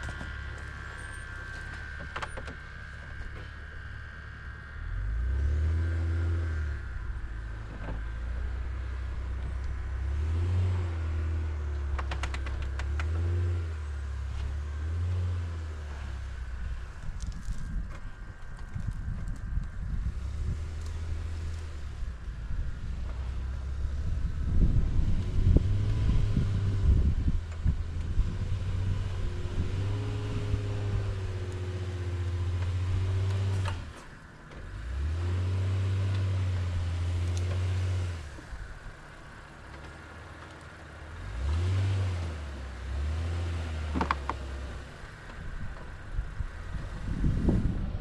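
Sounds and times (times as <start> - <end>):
suv engine revving: 0.0 - 48.0.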